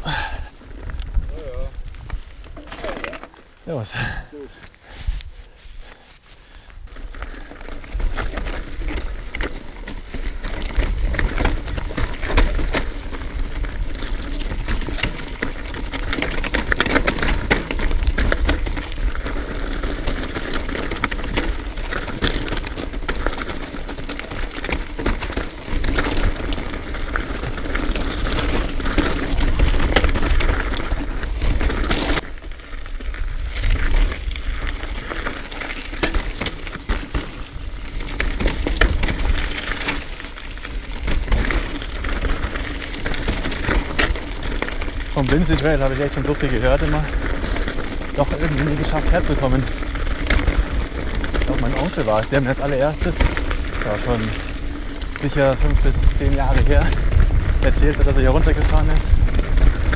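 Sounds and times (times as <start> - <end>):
bike rattling: 0.0 - 59.9
bike tyres crunching over stones: 0.0 - 59.9.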